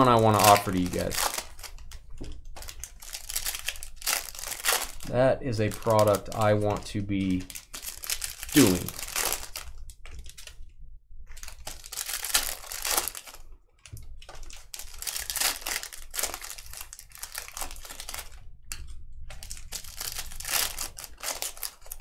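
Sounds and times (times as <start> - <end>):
wrappers crinkling and tearing: 0.0 - 10.6, 11.3 - 22.0.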